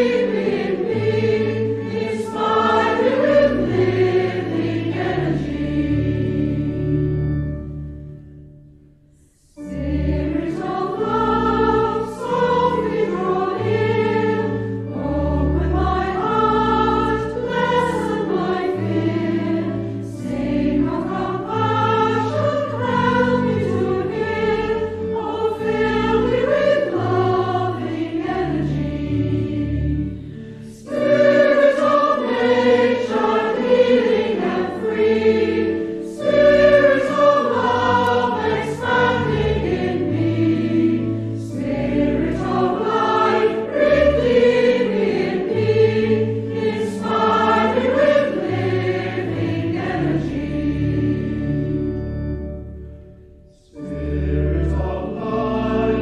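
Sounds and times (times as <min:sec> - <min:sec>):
congregation singing a hymn: 0:00.0 - 0:07.9, 0:09.4 - 0:52.6, 0:53.5 - 0:56.0
sustained low accompanying notes: 0:00.0 - 0:56.0.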